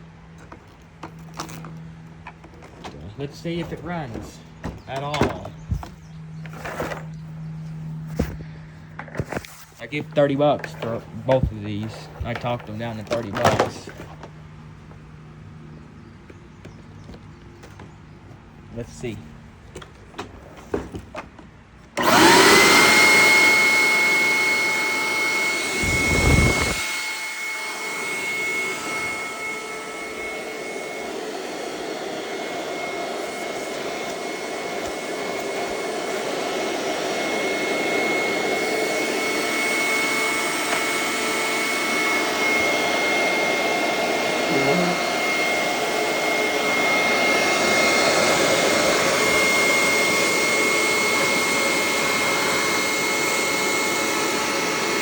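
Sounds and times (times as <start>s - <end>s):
carpet cleaner motor whining: 0.0s - 17.8s, 21.9s - 55.0s.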